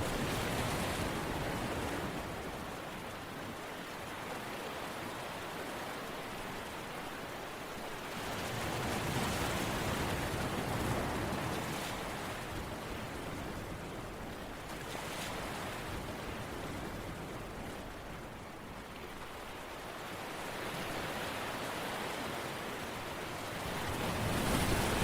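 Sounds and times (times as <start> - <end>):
ocean surf: 0.0 - 25.0.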